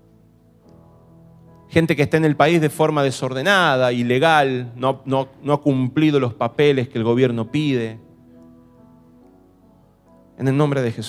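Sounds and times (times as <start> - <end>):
keyboard sustained chords: 0.0 - 11.0.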